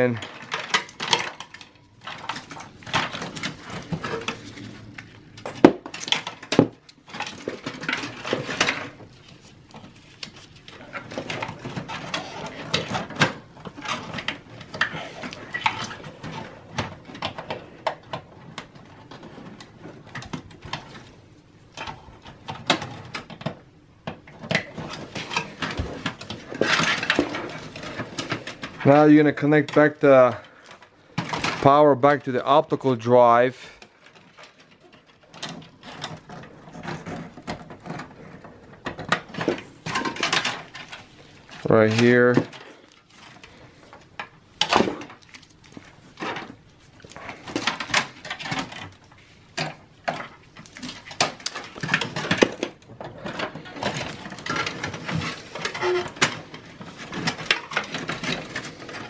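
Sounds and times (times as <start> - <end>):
cables rustling and scraping: 0.0 - 59.0.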